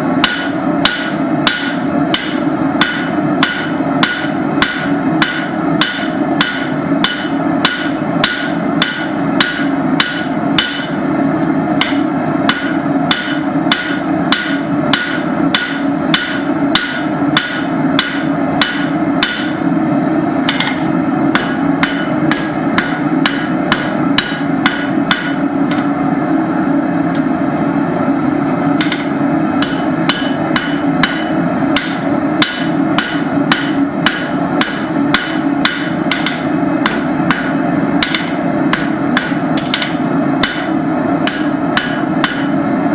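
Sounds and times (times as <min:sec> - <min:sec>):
hammer striking steel on anvil: 0:00.2 - 0:11.0, 0:11.7 - 0:19.7, 0:20.4 - 0:26.0, 0:28.8 - 0:42.6.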